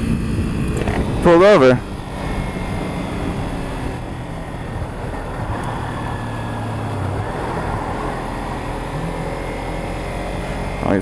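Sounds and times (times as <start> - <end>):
motorcycle engine running: 0.0 - 11.0
traffic noise: 0.0 - 11.0.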